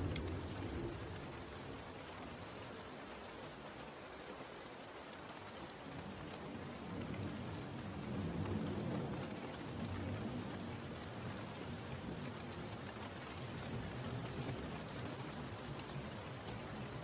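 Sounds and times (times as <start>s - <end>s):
raindrop ticks: 0.0s - 17.0s
steady rain falling: 0.0s - 17.0s.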